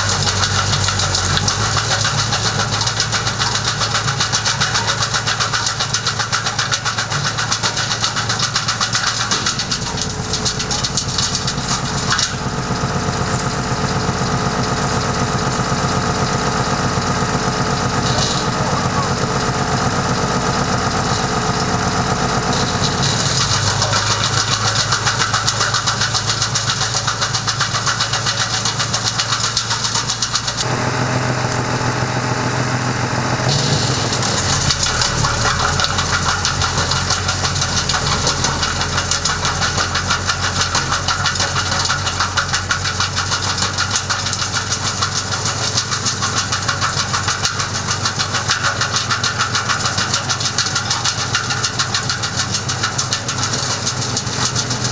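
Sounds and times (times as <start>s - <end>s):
wood chipper chopping branches: 0.0s - 54.9s.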